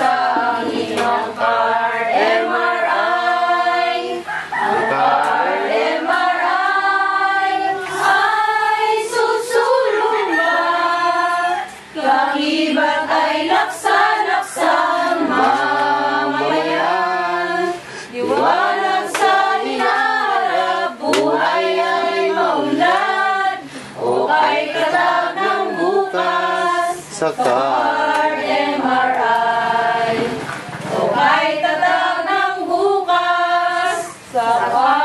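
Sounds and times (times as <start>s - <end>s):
women singing unaccompanied: 0.0s - 35.0s.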